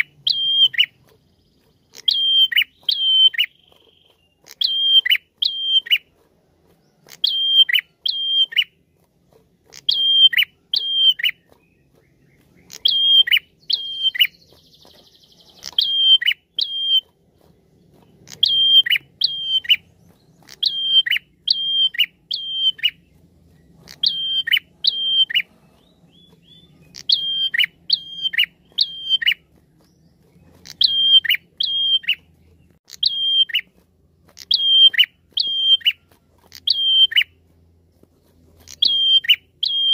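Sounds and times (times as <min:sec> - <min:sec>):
bird calling sharp notes: 0:00.0 - 0:08.8, 0:09.6 - 0:37.5, 0:38.6 - 0:39.9.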